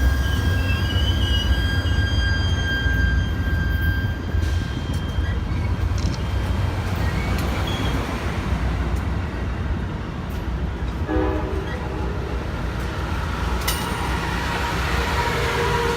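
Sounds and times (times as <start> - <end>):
train rolling past: 0.0 - 15.9.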